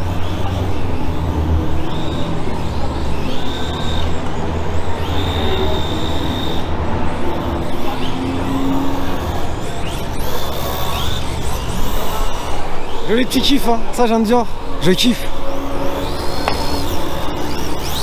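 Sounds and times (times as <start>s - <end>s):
electric motor high whine: 0.0s - 13.8s, 14.5s - 18.0s.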